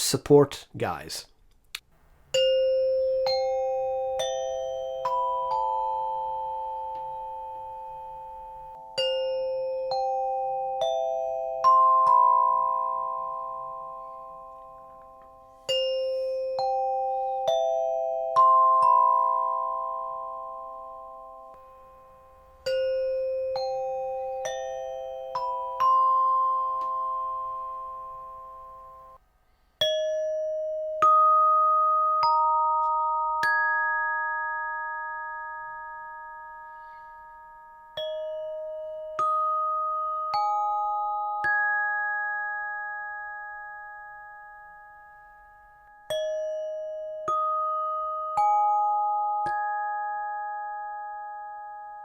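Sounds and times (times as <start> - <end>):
glockenspiel notes ringing: 2.3 - 29.2, 29.8 - 52.0.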